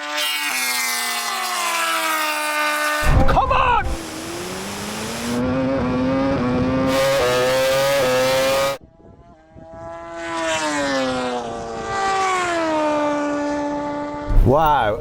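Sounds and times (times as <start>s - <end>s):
racing motorcycle engine: 0.0s - 15.0s.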